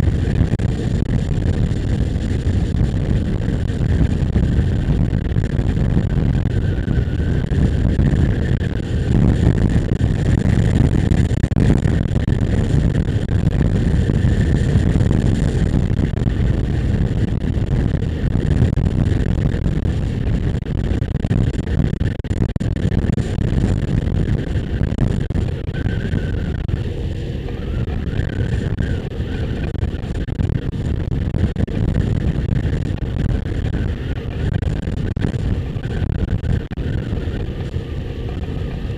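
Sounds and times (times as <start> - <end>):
motorcycle cruising: 0.0 - 20.6, 23.2 - 30.9, 35.4 - 38.9
wind rushing over microphone: 0.0 - 38.9.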